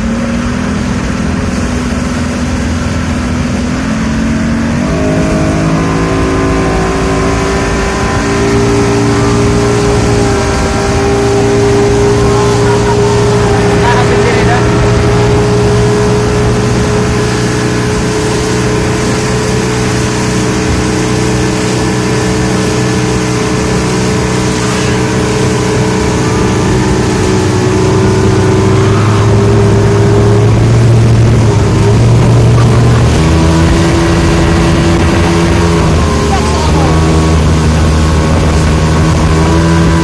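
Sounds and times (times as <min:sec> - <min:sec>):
motorboat engine running: 0:00.0 - 0:40.0.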